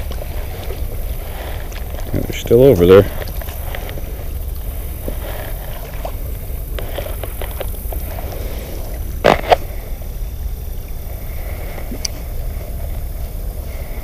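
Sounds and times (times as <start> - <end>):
faint water wash: 0.0 - 14.0
wind rumble on microphone: 0.0 - 14.0.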